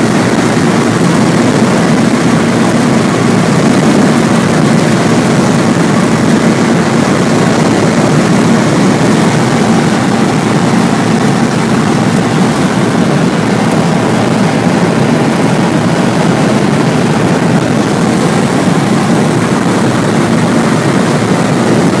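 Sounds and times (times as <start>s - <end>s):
car engine drone: 0.0s - 22.0s
wind and road noise: 0.0s - 22.0s.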